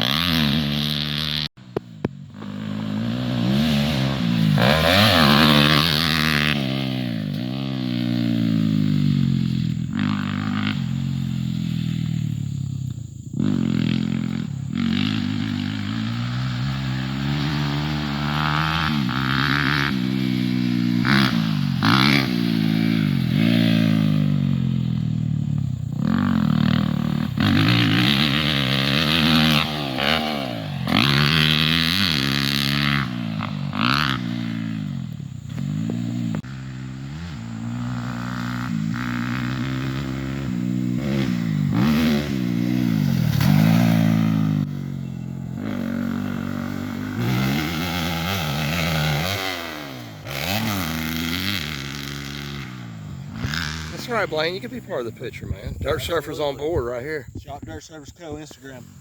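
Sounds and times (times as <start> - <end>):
dirt bike engine revving: 0.0 - 56.8.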